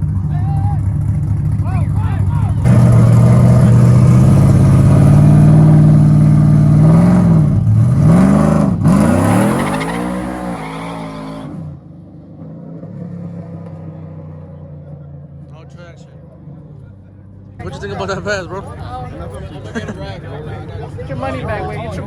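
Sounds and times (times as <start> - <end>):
truck engine revving: 0.0 - 19.0
tires spinning: 0.0 - 22.0.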